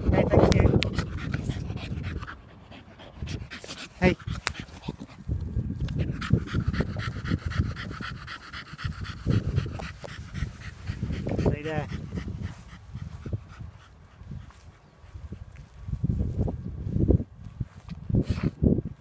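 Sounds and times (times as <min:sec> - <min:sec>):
dog panting: 0:00.0 - 0:15.6.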